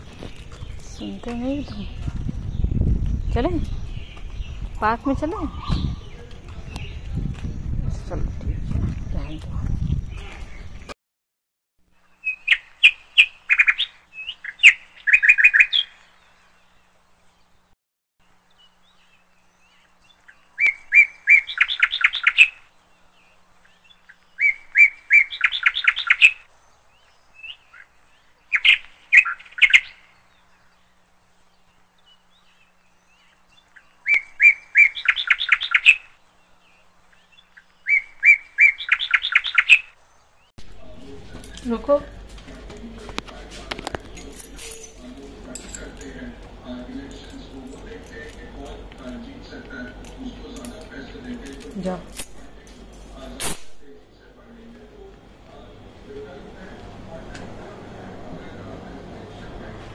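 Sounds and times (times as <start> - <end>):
songbird singing: 0.0 - 11.0, 11.9 - 59.9.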